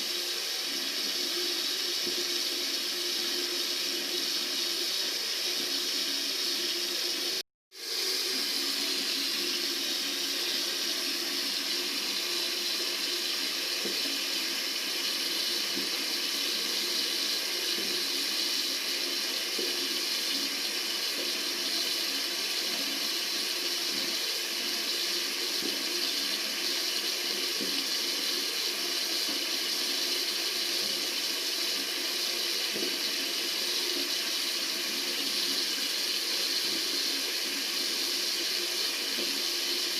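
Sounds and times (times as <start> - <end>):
tap water running into sink: 0.0 - 39.9.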